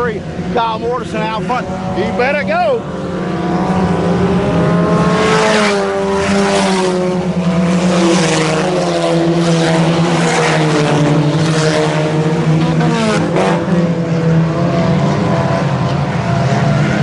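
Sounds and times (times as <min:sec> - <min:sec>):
race car engines running hard: 0:00.0 - 0:17.0.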